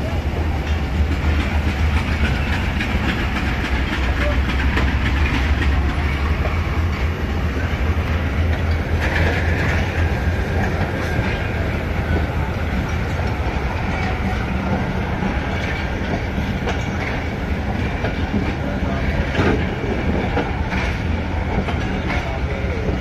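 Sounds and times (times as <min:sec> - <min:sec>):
train wheels rumbling on rail: 0:00.0 - 0:23.0
wheels clacking over rail joints: 0:00.0 - 0:23.0.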